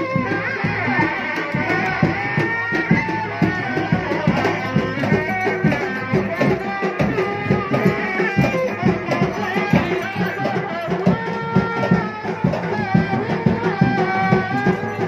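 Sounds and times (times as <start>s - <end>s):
fast dense drumming: 0.0s - 15.0s.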